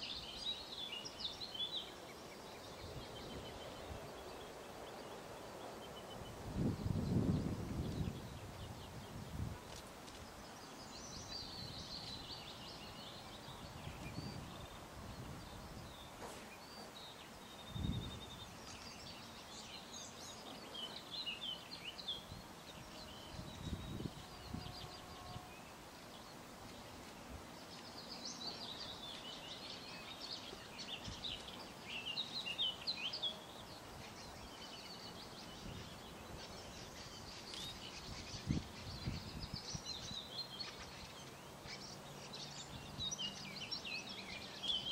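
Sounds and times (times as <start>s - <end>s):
outdoor background noise: 0.0s - 44.9s
songbirds singing: 0.0s - 44.9s.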